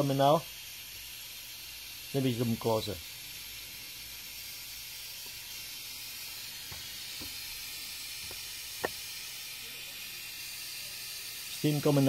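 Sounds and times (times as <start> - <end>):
steam hissing from radiator valve: 0.0 - 12.0.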